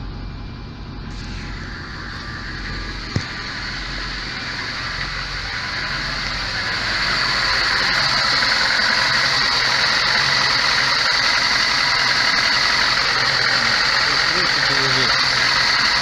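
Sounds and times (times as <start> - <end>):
car engine misfiring at idle: 0.0 - 16.0.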